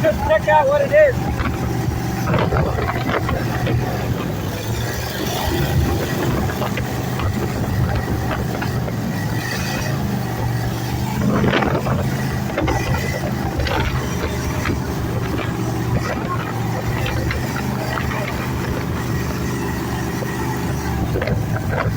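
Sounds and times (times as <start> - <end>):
boat engine running: 0.0 - 21.9
water noise: 0.0 - 21.9
wind noise: 0.0 - 21.9.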